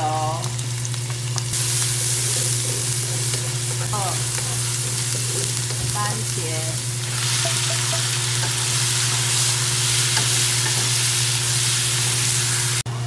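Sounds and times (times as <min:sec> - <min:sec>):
food sizzling in a wok: 0:00.0 - 0:12.9.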